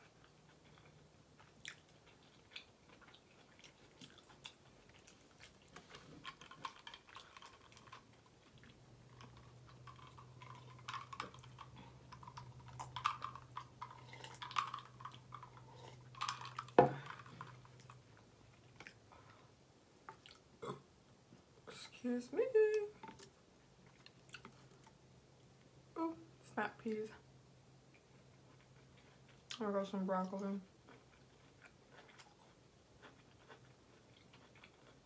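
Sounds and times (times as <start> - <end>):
person chewing food: 0.0 - 20.8, 23.0 - 25.7, 27.9 - 29.6, 30.7 - 35.0.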